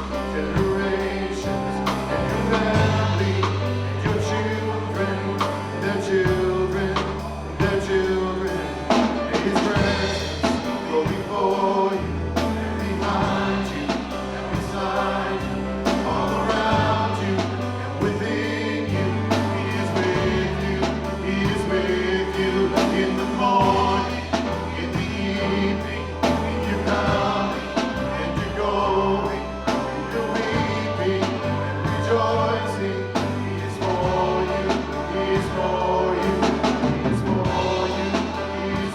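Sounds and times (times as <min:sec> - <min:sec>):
band playing: 0:00.0 - 0:38.9
group singing a worship song: 0:00.0 - 0:38.9.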